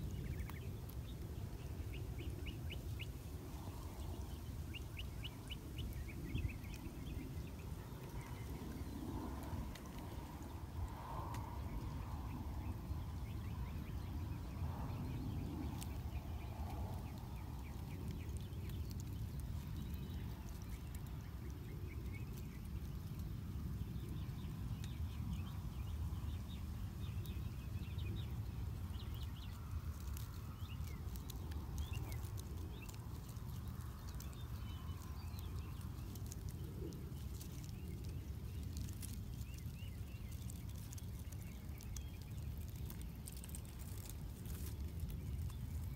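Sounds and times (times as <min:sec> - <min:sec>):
mockingbird song: 0:00.0 - 0:45.9
steady low rumble: 0:00.0 - 0:45.9.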